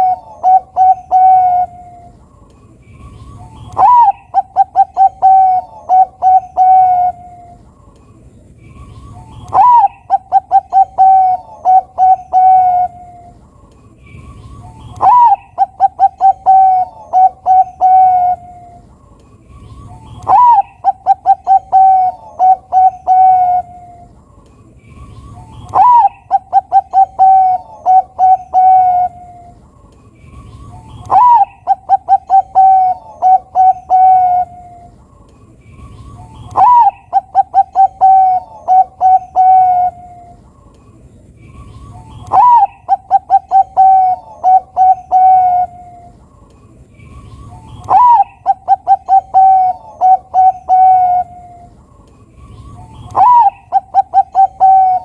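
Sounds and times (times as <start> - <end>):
dove cooing: 0.0 - 2.2, 3.2 - 7.6, 8.8 - 13.4, 14.5 - 18.9, 19.9 - 24.2, 25.1 - 29.6, 30.4 - 35.0, 36.0 - 40.4, 41.8 - 46.2, 47.4 - 51.7, 53.0 - 55.0.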